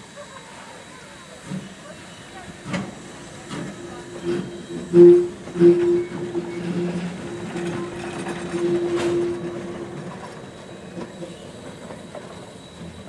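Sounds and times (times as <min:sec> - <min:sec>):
steam train rolling by: 0:00.0 - 0:13.0
wheels clicking over rails: 0:02.5 - 0:13.0.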